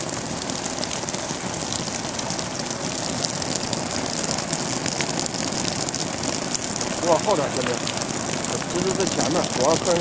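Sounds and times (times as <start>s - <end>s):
water patter on canvas: 0.0s - 10.0s.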